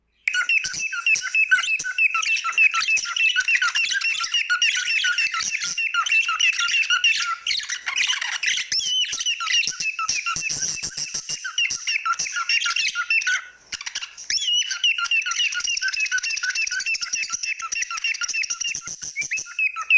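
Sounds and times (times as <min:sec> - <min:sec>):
cockatiels chirping: 0:00.2 - 0:19.9.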